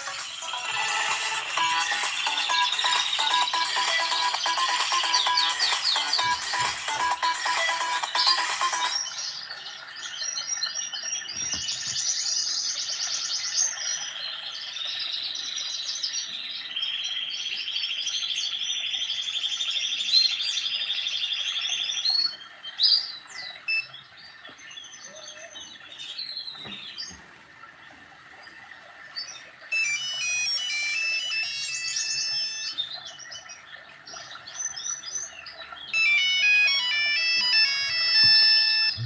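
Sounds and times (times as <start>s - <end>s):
birdsong ringtone chirps and trills: 0.0s - 39.0s.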